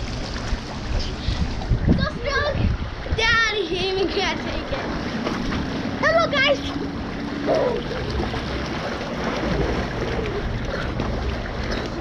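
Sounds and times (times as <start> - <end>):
pool water churning and splashing: 0.0 - 12.0.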